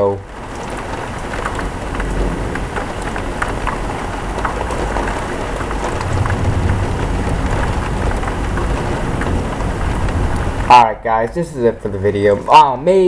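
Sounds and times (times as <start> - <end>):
low rumble of thunder: 0.0 - 12.5
heavy rain pouring: 0.0 - 13.0
raindrops pattering on surface: 0.0 - 13.0.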